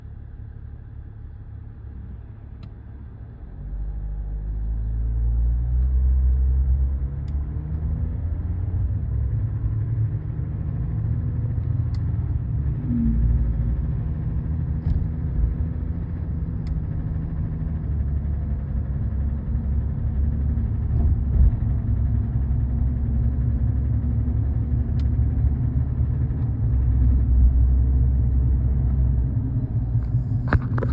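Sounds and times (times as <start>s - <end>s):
diesel engine rumbling: 0.0s - 30.9s.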